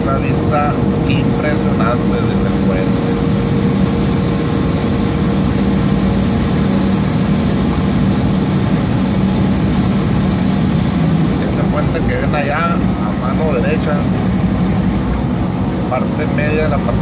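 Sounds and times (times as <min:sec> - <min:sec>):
diesel truck engine running: 0:00.0 - 0:17.0
road and wind noise: 0:00.0 - 0:17.0.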